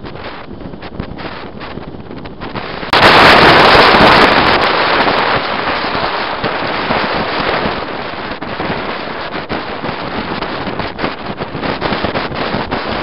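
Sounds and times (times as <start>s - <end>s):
wind rushing at vehicle window: 0.0s - 13.0s.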